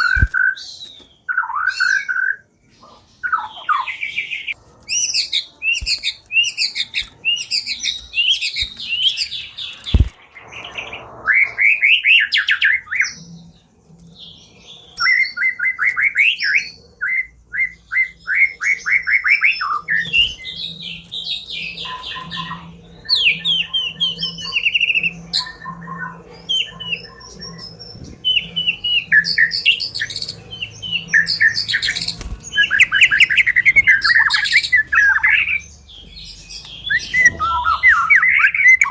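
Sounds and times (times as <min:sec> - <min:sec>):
bird singing chirps and whistles: 0:00.0 - 0:02.4, 0:03.2 - 0:13.3, 0:14.2 - 0:38.9.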